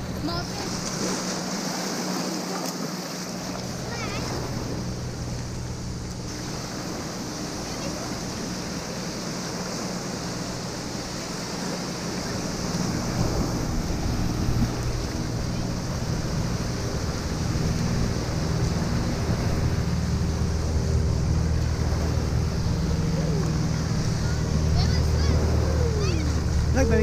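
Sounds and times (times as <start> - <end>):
low engine drone: 0.0 - 27.0
surf washing and breaking: 0.0 - 27.0
wind buffeting microphone: 3.3 - 27.0.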